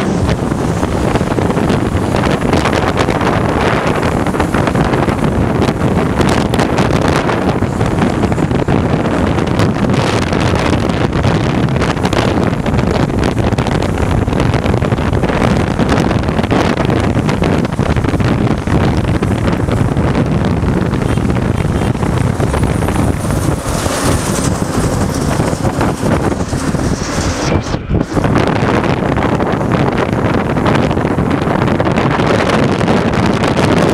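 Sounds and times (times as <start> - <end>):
motorcycle road and engine noise: 0.0 - 33.9
wind buffeting microphone: 0.0 - 33.9.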